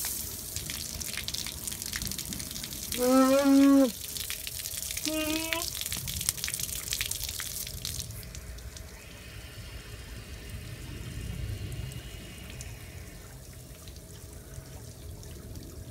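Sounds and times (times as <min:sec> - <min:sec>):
faint hiss of water through valve: 0:00.0 - 0:01.6, 0:02.4 - 0:15.5
water spraying from hose spigot: 0:00.0 - 0:14.6.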